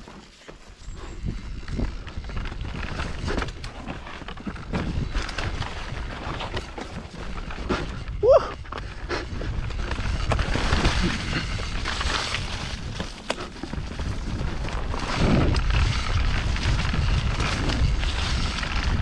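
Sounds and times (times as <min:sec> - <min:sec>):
bike rattles and knocks: 0:00.0 - 0:19.0
bike tyres on dirt trail: 0:00.0 - 0:19.0
wind buffeting microphone: 0:00.9 - 0:06.6, 0:07.2 - 0:19.0.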